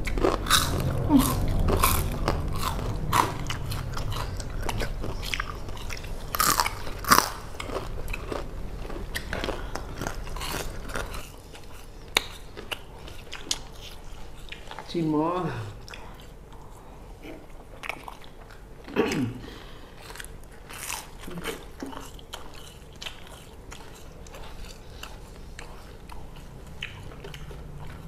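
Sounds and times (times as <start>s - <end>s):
crunching and chewing: 0.0s - 15.1s, 15.8s - 19.0s, 19.7s - 28.0s.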